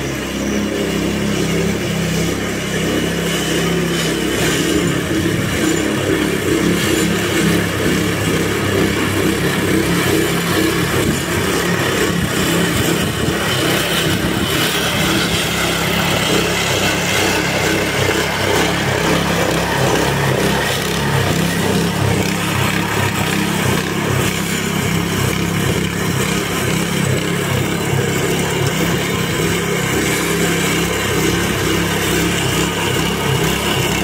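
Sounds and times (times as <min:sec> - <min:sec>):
blades raking moss: 0:00.0 - 0:34.0
lawn scarifier engine running: 0:00.0 - 0:34.0.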